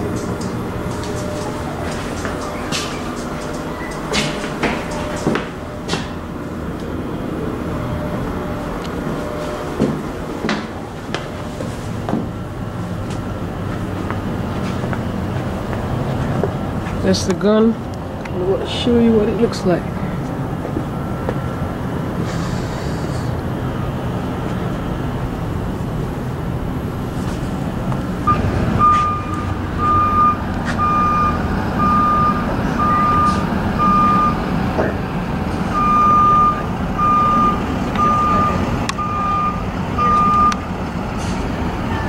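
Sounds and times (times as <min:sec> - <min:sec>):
truck reversing alarm beeping: 0:00.0 - 0:17.8, 0:18.5 - 0:42.0
steady low rumble: 0:00.0 - 0:42.0.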